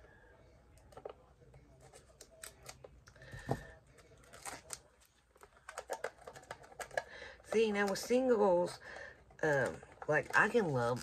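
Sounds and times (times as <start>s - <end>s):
packaging clicks and rustles: 0.8s - 11.0s.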